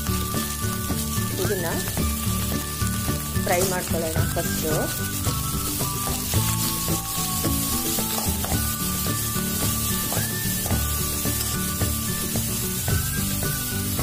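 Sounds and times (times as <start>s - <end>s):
music: 0.0s - 14.0s
vegetables sizzling in hot oil: 0.0s - 14.0s
ladle scraping a pan: 1.3s - 13.6s.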